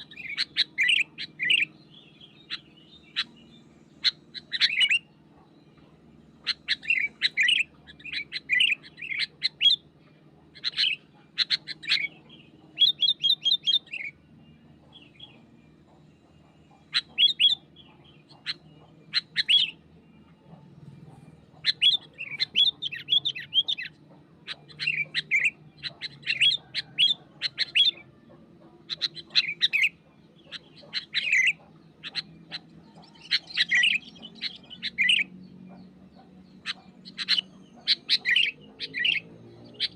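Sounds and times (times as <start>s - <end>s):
bird singing chirpy phrases: 0.0s - 39.9s.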